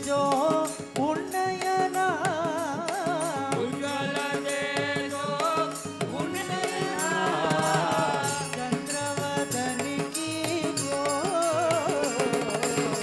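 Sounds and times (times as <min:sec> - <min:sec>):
person singing devotional song: 0:00.0 - 0:13.0
sharp percussion strikes: 0:00.0 - 0:13.0.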